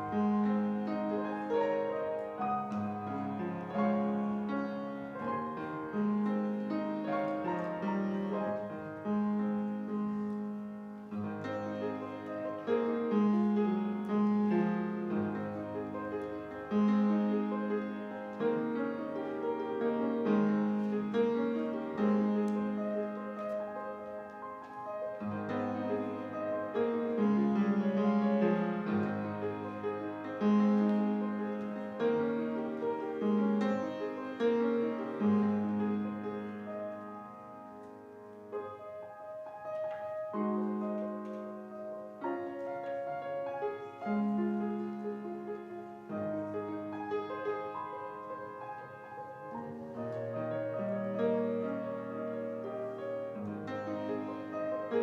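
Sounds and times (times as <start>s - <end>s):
slow piano hymn: 0.0s - 55.0s.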